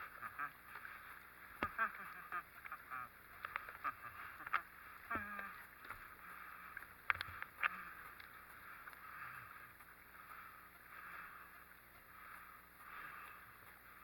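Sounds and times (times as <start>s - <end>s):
water sloshing against boat: 0.0s - 14.0s.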